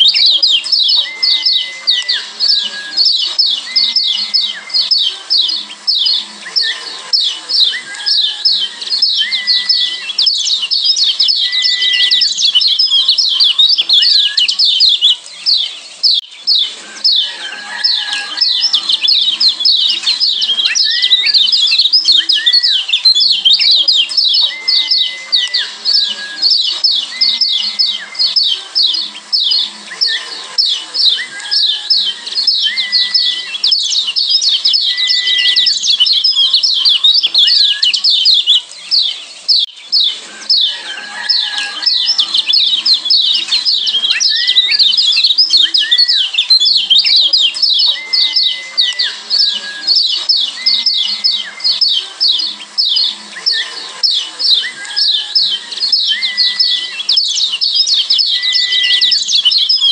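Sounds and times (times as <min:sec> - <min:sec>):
bird whistled notes: 0:00.0 - 0:59.9
birds chirping sharply: 0:00.0 - 0:59.9.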